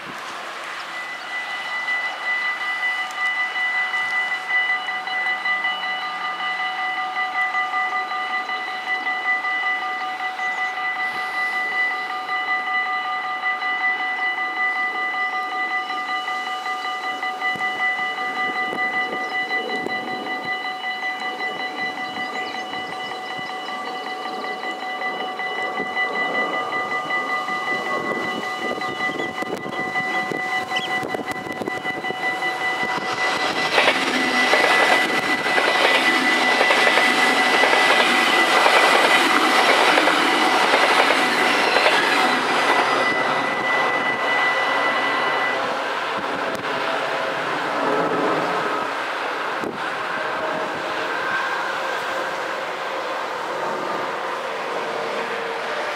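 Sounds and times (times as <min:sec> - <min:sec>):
level crossing warning bells: 0:00.0 - 0:55.9.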